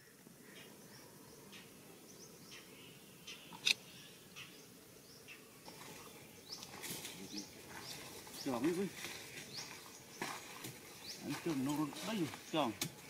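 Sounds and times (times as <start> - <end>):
birds chirping: 0.0 - 13.0
faint woodland background noise: 0.0 - 13.0.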